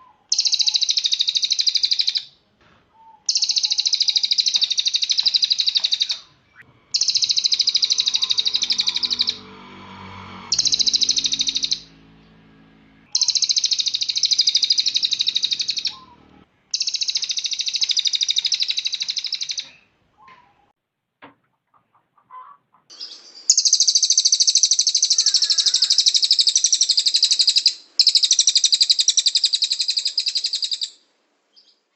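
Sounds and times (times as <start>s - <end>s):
songbird singing fast high notes: 0.3s - 2.3s, 3.2s - 19.7s, 22.9s - 31.0s.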